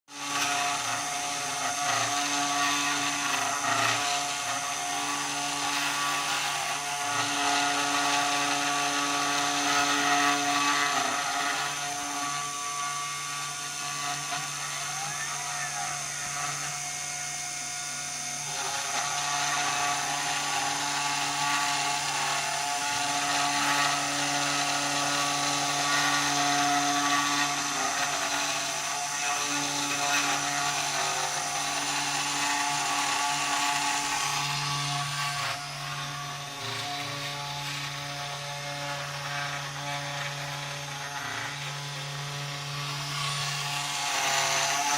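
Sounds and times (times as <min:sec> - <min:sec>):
machine motor whine: 0:00.2 - 0:44.9.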